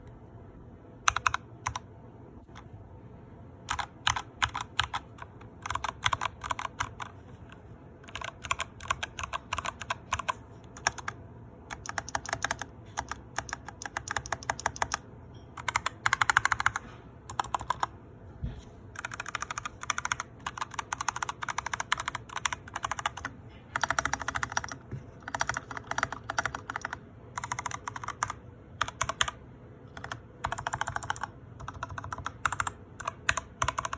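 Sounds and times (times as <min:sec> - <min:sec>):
typing on mechanical keyboard: 0:01.0 - 0:02.7, 0:03.6 - 0:07.2, 0:08.0 - 0:17.9, 0:18.9 - 0:33.9.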